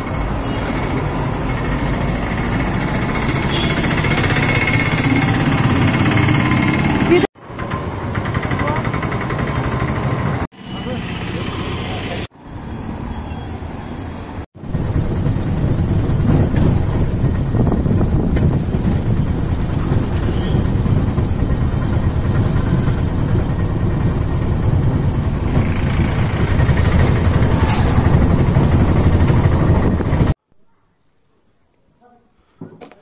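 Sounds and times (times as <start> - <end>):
auto-rickshaw engine running: 0.0 - 12.3, 14.6 - 30.4
road and wind noise: 0.0 - 30.5.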